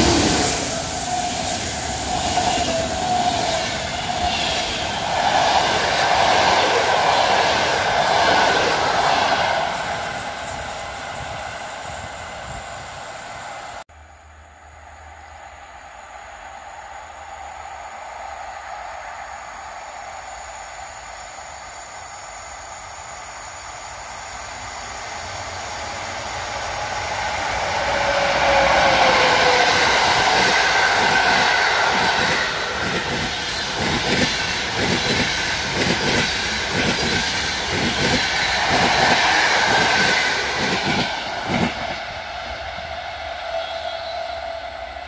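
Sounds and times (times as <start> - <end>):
passenger train rumbling past: 0.0 - 45.0.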